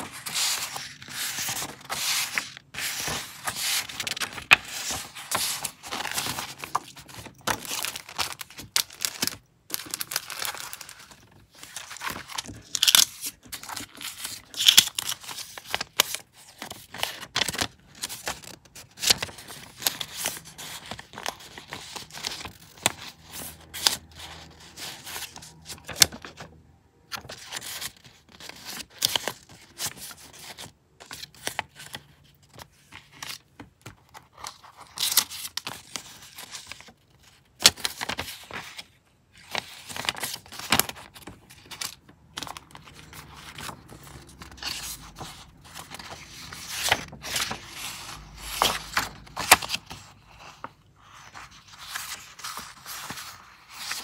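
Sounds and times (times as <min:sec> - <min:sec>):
paper rustling: 0:00.0 - 0:26.4, 0:27.1 - 0:54.0.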